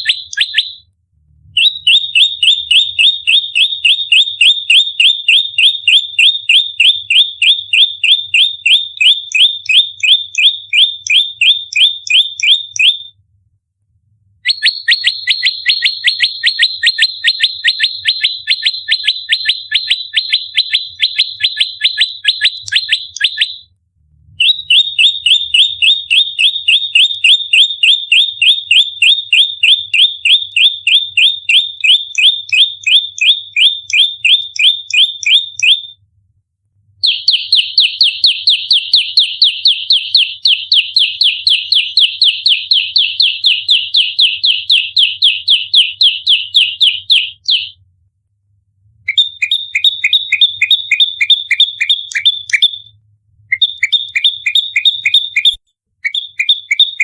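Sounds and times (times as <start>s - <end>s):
bird rapid high chirps: 0.0s - 0.8s, 1.6s - 13.1s, 14.4s - 23.7s, 24.4s - 35.9s, 37.0s - 47.8s, 49.1s - 52.9s, 53.5s - 57.0s.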